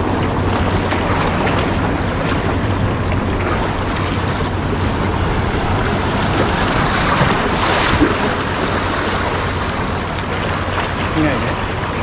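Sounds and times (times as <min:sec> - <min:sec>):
sea waves washing over rocks: 0:00.0 - 0:12.0.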